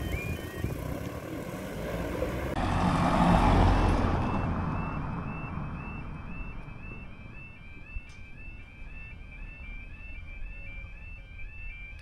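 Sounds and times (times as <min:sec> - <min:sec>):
level crossing alarm: 0:00.0 - 0:01.1, 0:03.3 - 0:12.0
passing vehicle rumble: 0:00.0 - 0:12.0.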